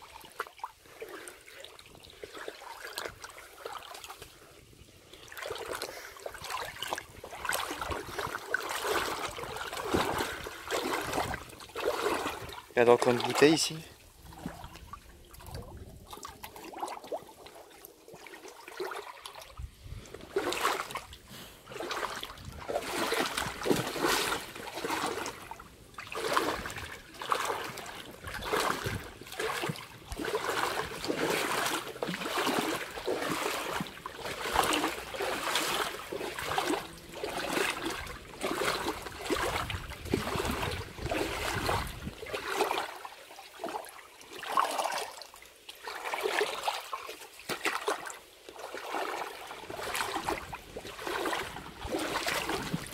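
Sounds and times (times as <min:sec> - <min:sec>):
footsteps wading through water: 0:00.0 - 0:52.9
stream trickling: 0:00.0 - 0:52.9
water splashing: 0:00.0 - 0:52.9.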